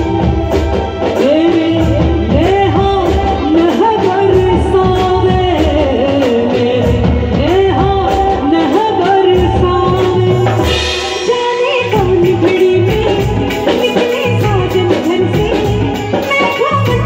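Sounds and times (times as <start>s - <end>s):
drum kit: 0.0s - 17.0s
hand drums: 0.0s - 17.0s
woman singing: 0.0s - 17.0s.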